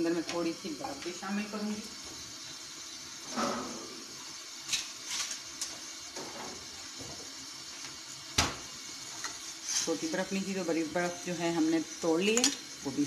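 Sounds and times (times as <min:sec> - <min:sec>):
tea simmering hiss: 0:00.0 - 0:13.0.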